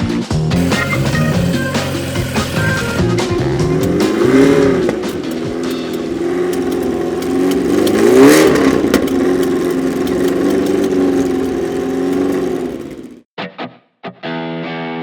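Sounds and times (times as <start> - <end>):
engine rev blip: 0.6 - 13.2
sports car engine idling: 0.6 - 13.2.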